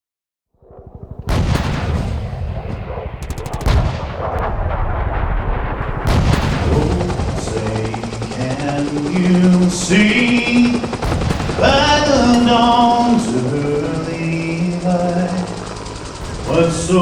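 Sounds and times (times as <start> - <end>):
automatic weapons firing: 1.3 - 17.0.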